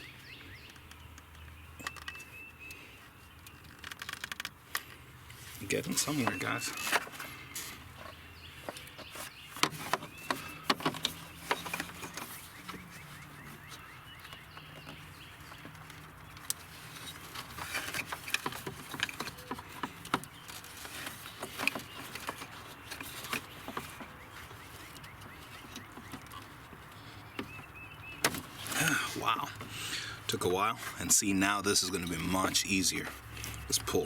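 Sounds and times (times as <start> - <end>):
hard plastic parts clicking: 0.0 - 34.0.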